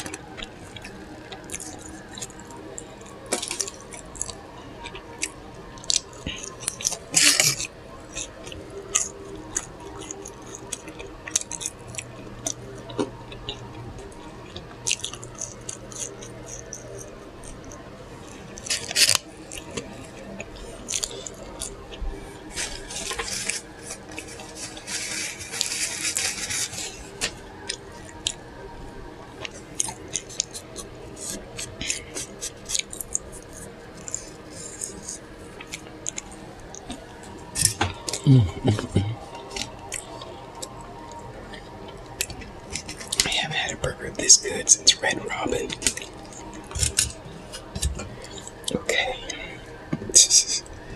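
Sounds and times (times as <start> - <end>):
chewing and lip smacking: 0.0 - 28.6, 29.2 - 43.4, 44.1 - 49.9.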